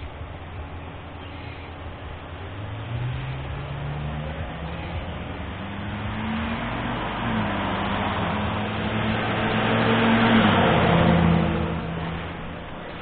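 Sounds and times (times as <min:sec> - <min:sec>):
vehicle engine accelerating: 0:01.9 - 0:13.0.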